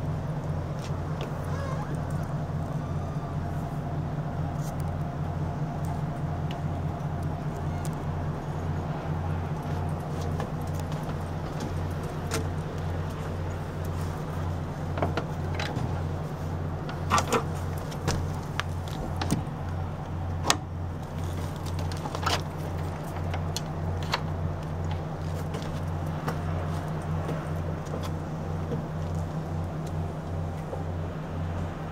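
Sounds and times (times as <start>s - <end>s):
low pulsing engine hum: 0.0s - 31.9s.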